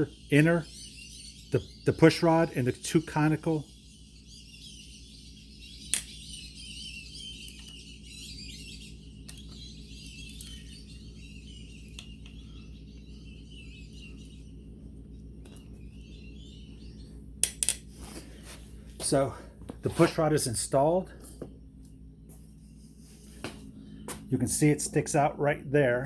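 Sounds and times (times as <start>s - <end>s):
birds chirping: 0.0s - 26.0s
low hum: 0.0s - 26.0s.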